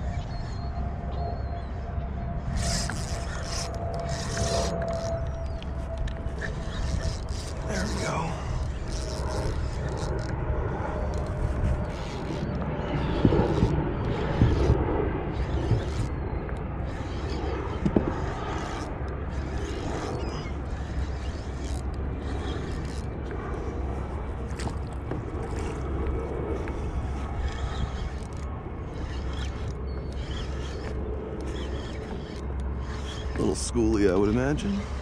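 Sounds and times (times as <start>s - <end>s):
fishing reel cranking: 2.4s - 35.0s
small reel clicks: 2.5s - 35.0s.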